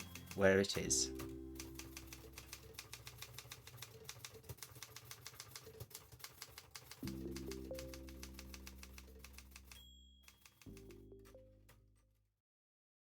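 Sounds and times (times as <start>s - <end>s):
manual typewriter keystrokes: 0.0s - 11.8s.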